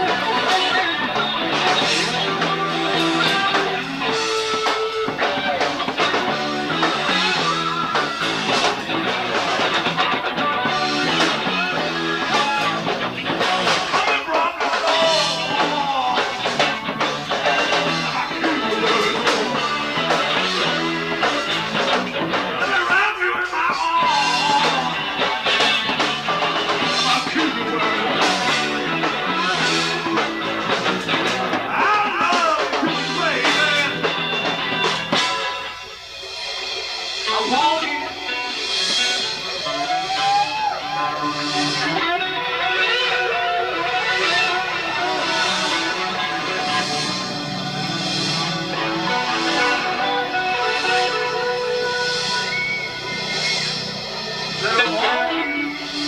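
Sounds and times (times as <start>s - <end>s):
bass guitar: 0.0s - 56.0s
drum kit: 0.0s - 56.0s
guitar: 0.0s - 56.0s.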